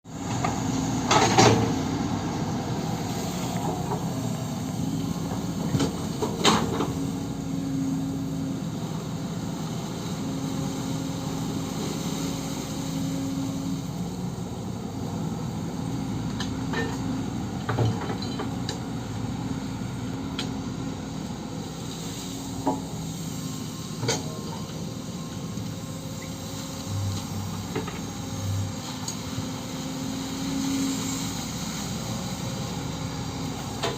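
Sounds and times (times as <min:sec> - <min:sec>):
excavator engine running: 0:00.1 - 0:33.9.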